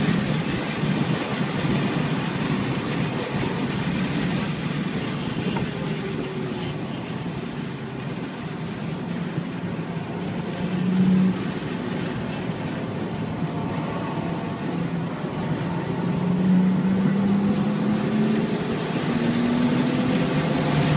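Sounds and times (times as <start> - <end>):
car engine under acceleration: 0.0 - 20.9
road and wind noise: 0.0 - 20.9.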